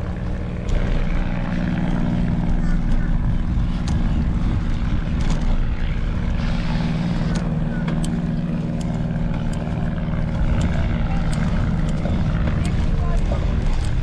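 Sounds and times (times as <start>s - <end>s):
low engine hum: 0.0s - 14.0s
rumbling background: 0.0s - 14.0s.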